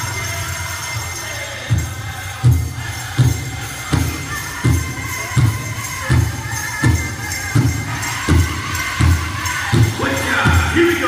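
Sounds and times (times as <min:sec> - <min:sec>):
bells jingling: 0:00.0 - 0:11.0
group of singers: 0:00.0 - 0:11.0
big drum beating: 0:01.7 - 0:11.0.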